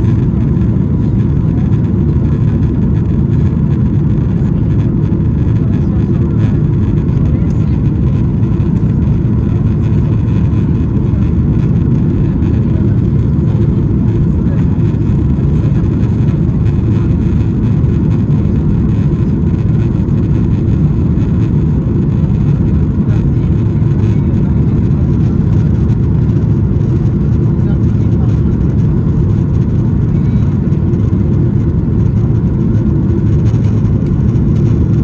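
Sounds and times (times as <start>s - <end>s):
airflow over fuselage: 0.0s - 35.0s
jet engine cabin rumble: 0.0s - 35.0s.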